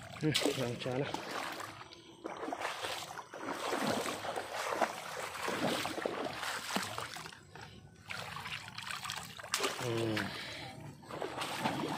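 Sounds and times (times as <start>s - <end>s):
shallow water sloshing and splashing: 0.0s - 11.9s.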